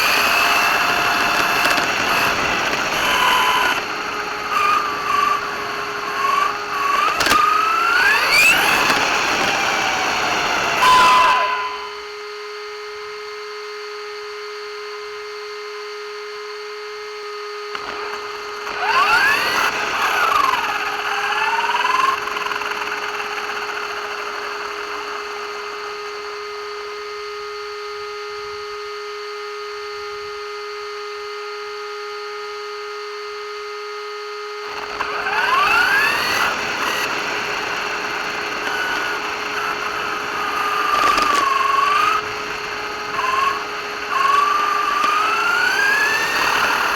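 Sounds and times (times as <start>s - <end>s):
electrical hum: 0.0s - 28.8s, 34.6s - 46.9s
rc car motor whining: 0.0s - 30.6s, 33.3s - 46.9s.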